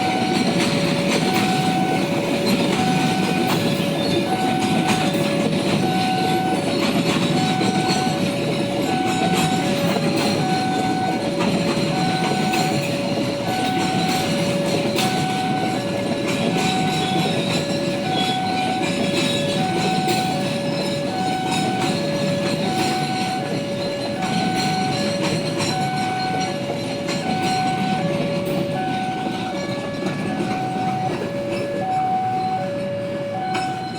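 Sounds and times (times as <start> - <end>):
train wheels clicking: 0.0 - 33.9
two-tone electronic warning alarm: 0.0 - 33.9.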